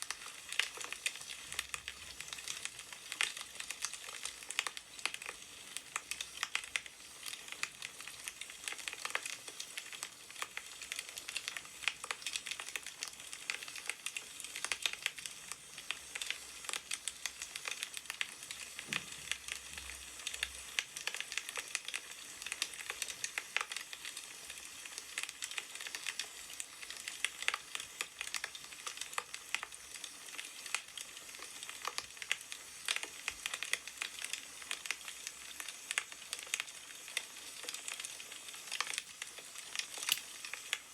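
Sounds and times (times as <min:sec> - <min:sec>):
firewood crackling and popping: 0:00.0 - 0:40.9.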